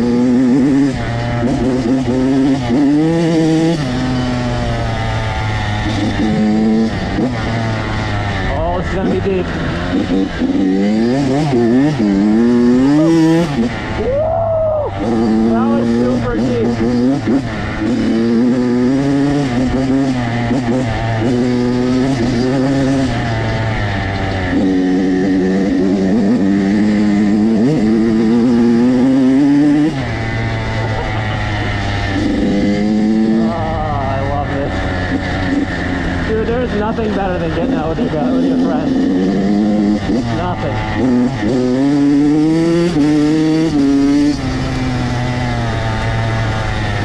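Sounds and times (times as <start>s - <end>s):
dirt bike engines revving: 0.0s - 47.0s
steady low engine note: 0.0s - 47.0s.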